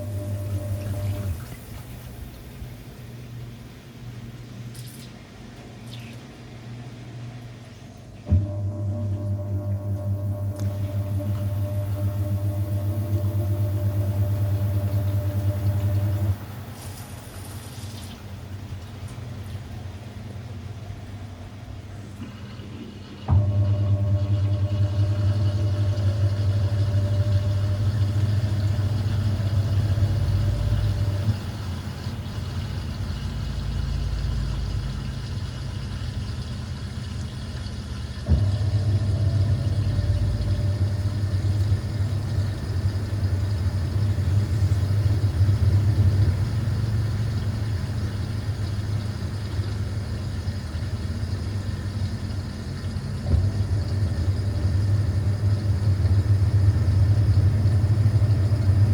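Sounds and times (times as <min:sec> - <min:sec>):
washing machine motor humming: 0:00.0 - 0:58.9.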